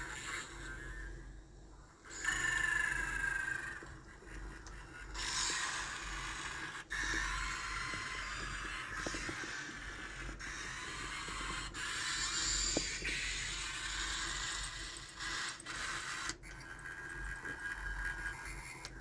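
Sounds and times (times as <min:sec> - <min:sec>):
hissing toy robot sound effect: 0:00.0 - 0:01.0, 0:02.1 - 0:16.4.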